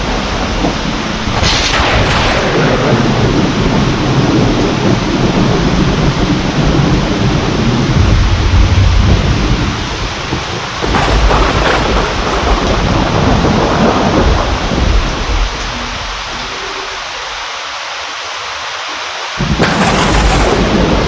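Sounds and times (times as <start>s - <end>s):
rolling thunder: 0.0s - 17.0s, 19.4s - 21.0s
heavy rain: 0.0s - 21.0s.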